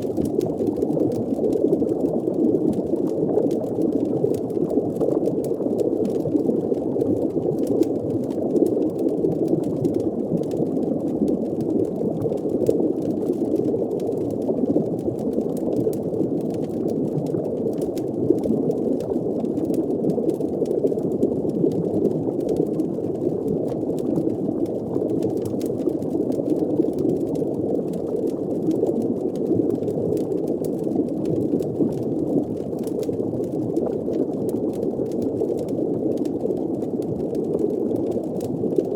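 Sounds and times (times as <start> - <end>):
faint crackling ticks: 0.0 - 38.9
muffled underwater rumble: 0.0 - 38.9
water bubbling: 0.0 - 38.9.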